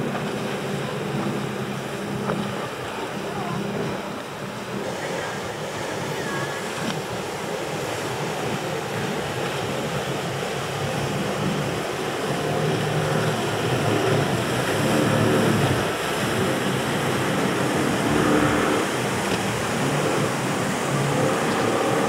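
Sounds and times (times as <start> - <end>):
outboard motors running: 0.0 - 22.0
rush of spray and surf: 0.0 - 22.0.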